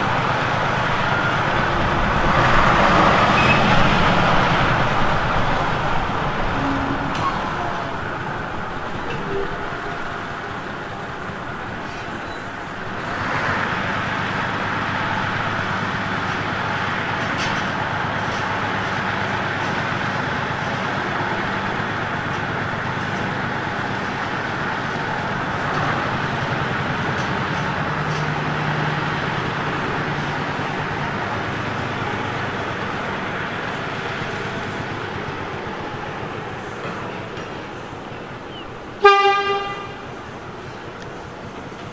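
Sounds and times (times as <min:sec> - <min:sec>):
locomotive engine running: 0:00.0 - 0:41.9.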